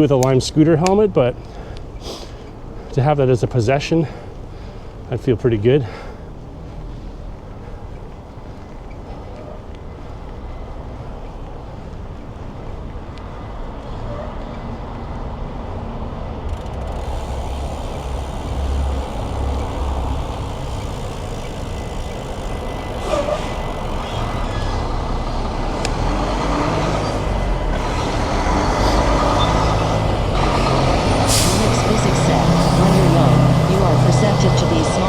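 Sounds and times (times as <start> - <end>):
road traffic rumbling: 0.0 - 35.0
vehicle engine: 1.2 - 35.0.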